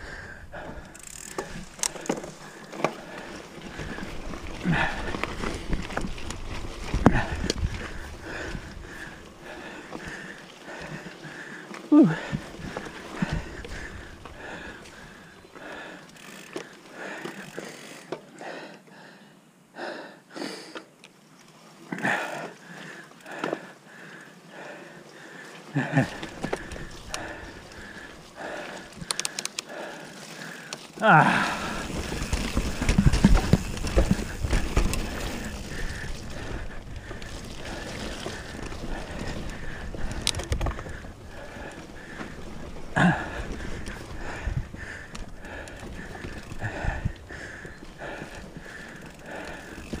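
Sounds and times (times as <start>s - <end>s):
person breathing hard: 0.0s - 5.6s, 6.8s - 20.9s, 21.9s - 50.0s
wind and tyre noise: 0.0s - 18.2s, 23.2s - 50.0s
bike clicks: 0.0s - 18.8s, 21.9s - 24.4s, 25.8s - 50.0s.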